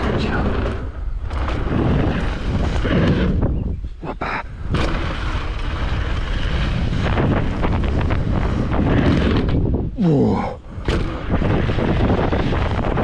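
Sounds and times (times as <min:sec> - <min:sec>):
bike rattling and knocking: 0:00.0 - 0:03.8, 0:04.6 - 0:09.9, 0:10.7 - 0:13.0
bike tyres rumbling on dirt: 0:00.0 - 0:13.0
wind buffeting microphone: 0:00.0 - 0:13.0.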